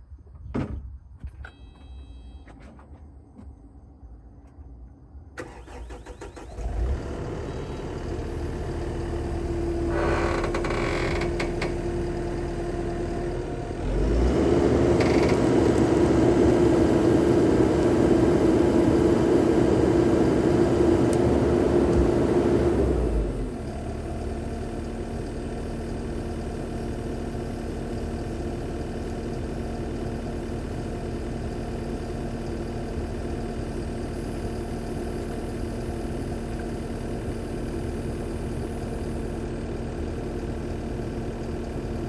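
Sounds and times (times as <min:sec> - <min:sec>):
skid steer engine running: 0:05.4 - 0:42.0.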